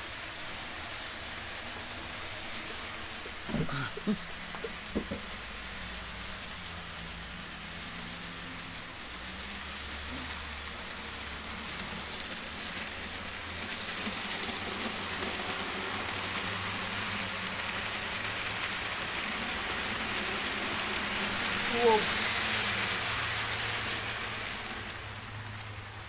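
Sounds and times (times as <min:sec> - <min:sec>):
model train wheels rattling on rails: 0:00.0 - 0:26.0.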